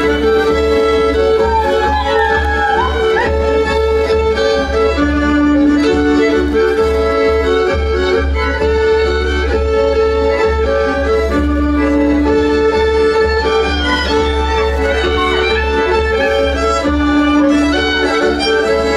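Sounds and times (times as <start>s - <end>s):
fiddle melody: 0.0s - 18.9s
folk band playing: 0.0s - 18.9s.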